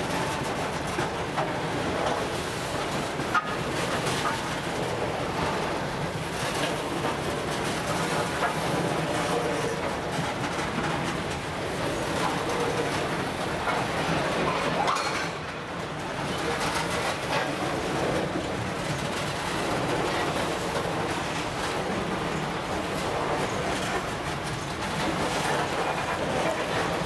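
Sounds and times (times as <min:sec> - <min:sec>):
train wheels rumbling on rails: 0:00.0 - 0:27.0
wheels clacking over rail joints: 0:00.0 - 0:27.0.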